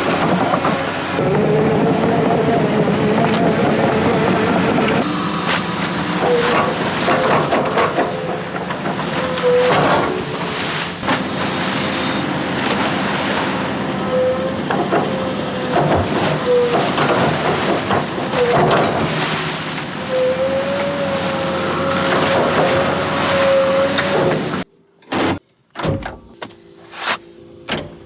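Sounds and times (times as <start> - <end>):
concrete mixer truck running: 0.0 - 24.7.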